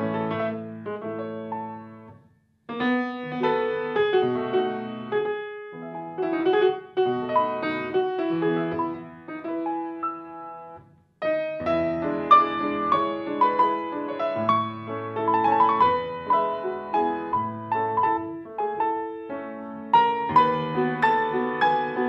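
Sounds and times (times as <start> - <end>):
solo grand piano: 0.0 - 22.0.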